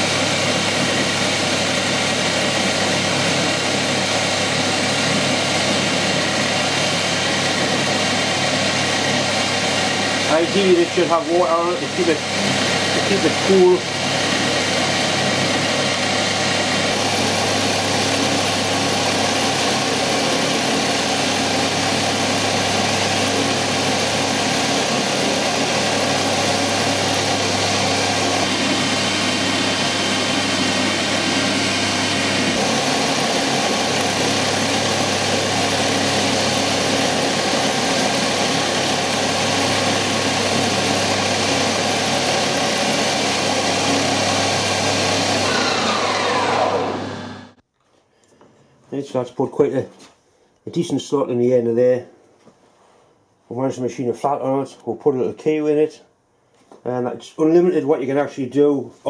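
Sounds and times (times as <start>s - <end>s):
metal lathe whining: 0.0s - 47.6s.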